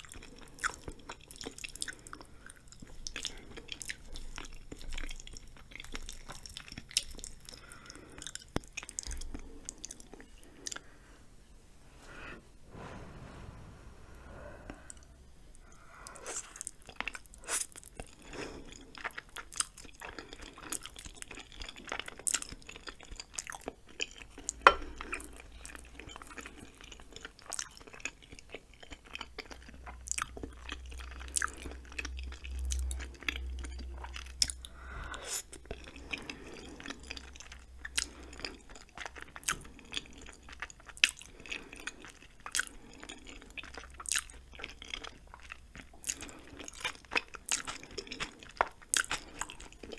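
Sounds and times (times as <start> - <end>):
chewing noodles: 0.0 - 11.0, 14.2 - 49.9.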